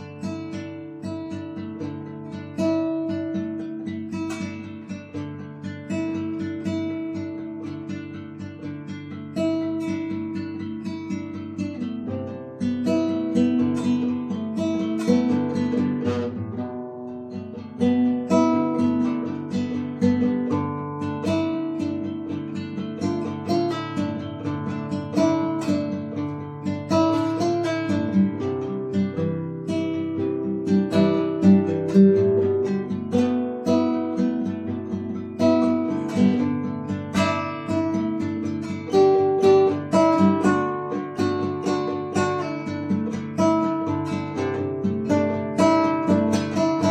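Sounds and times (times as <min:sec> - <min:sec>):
acoustic guitar playing: 0:00.0 - 0:46.9
plucked string instrument chords: 0:00.0 - 0:46.9.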